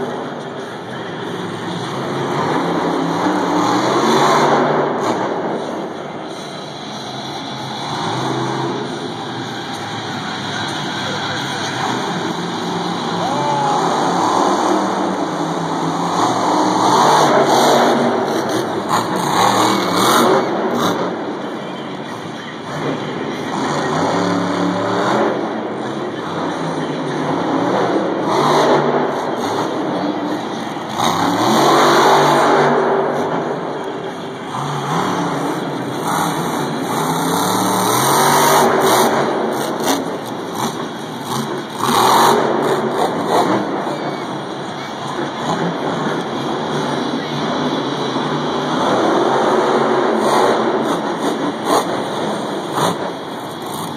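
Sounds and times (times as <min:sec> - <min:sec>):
truck engine revving hard: 0:00.0 - 0:21.6, 0:22.2 - 0:53.9.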